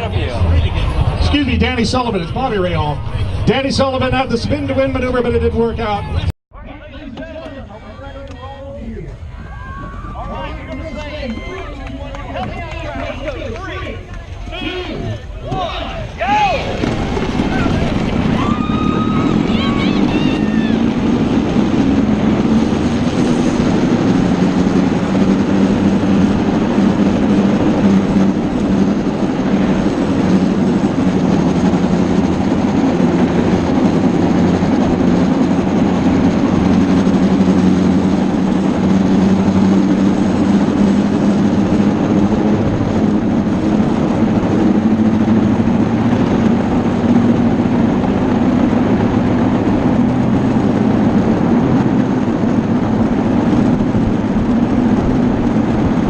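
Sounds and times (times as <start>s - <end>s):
loud engine-like drone: 0.0s - 56.0s.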